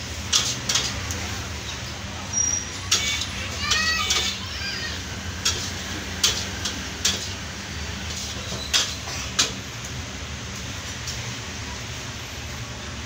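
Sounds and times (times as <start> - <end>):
low hum of traffic: 0.0 - 13.0.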